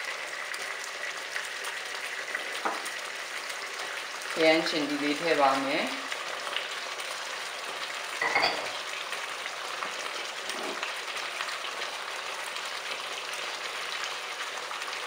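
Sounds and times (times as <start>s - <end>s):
meat and sauce sizzling in a wok: 0.0s - 15.0s.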